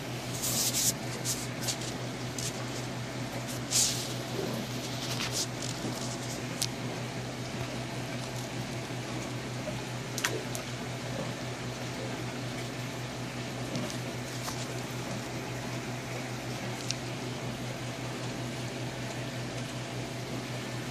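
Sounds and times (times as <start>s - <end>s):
low steady hum: 0.0s - 20.9s.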